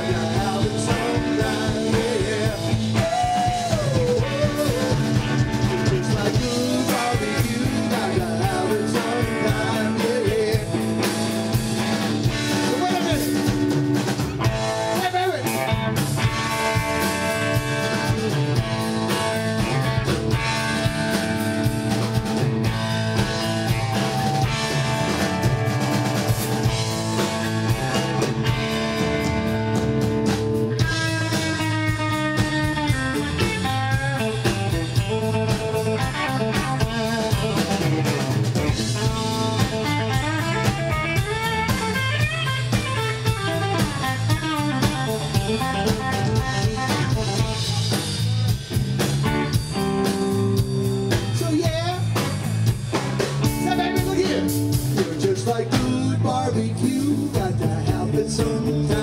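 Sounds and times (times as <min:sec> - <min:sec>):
bass guitar: 0:00.0 - 0:59.0
drum kit: 0:00.0 - 0:59.0
electric guitar: 0:00.0 - 0:59.0
fast bending guitar lead line: 0:00.0 - 0:59.0.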